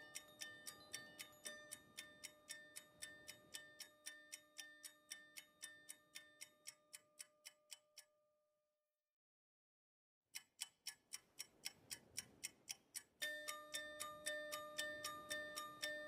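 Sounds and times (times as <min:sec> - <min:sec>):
clock-like ticking: 0:00.0 - 0:08.2, 0:10.3 - 0:16.0.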